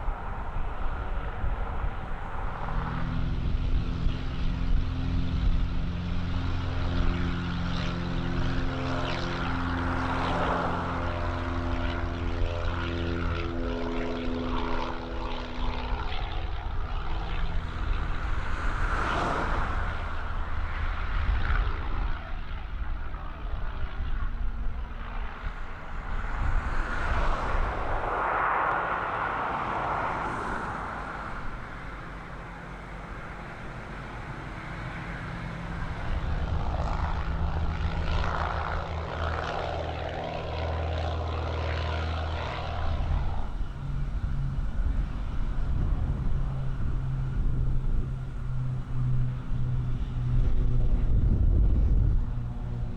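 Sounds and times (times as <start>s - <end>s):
propeller plane engines droning: 0.0s - 52.9s.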